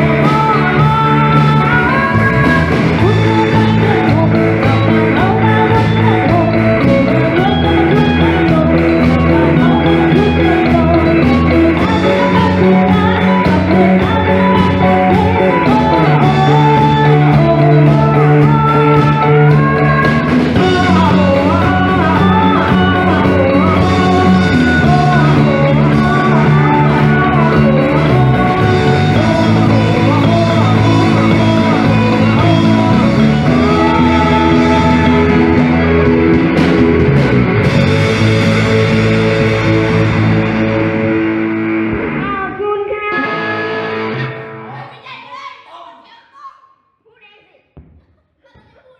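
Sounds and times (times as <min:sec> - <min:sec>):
person singing: 0:00.0 - 0:40.7, 0:42.1 - 0:44.8
bass notes: 0:00.0 - 0:44.8
guitar: 0:00.0 - 0:45.7.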